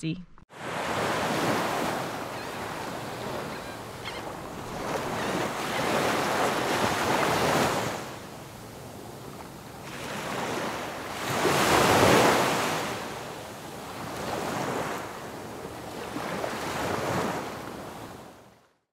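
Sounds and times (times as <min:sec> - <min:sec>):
ocean waves breaking on beach: 0:00.5 - 0:18.6.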